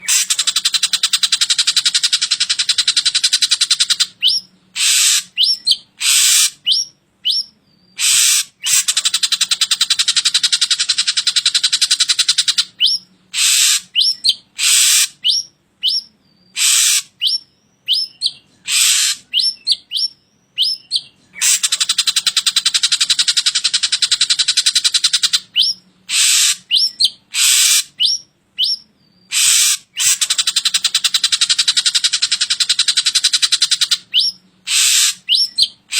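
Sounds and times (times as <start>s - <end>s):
bird song with rasping chatters: 0.0s - 35.9s
bird whistles sweeping up and down: 0.0s - 35.9s.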